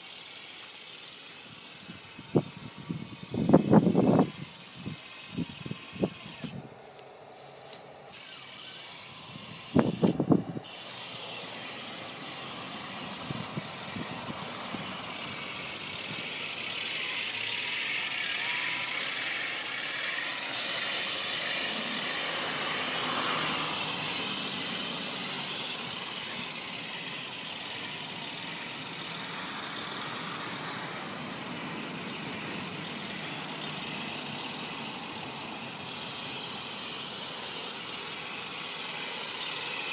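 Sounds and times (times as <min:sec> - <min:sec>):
model tank whirring: 0:00.0 - 0:39.9.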